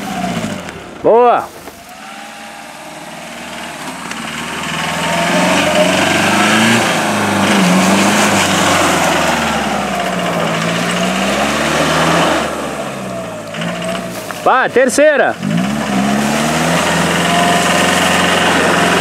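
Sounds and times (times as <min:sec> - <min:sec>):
diesel engine pulling under load: 0:00.0 - 0:19.0.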